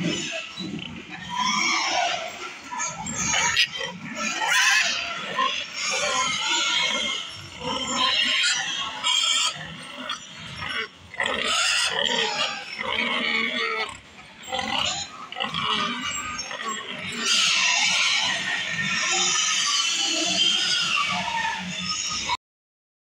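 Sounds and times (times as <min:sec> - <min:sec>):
pigs vocalizing: 0:00.0 - 0:22.4.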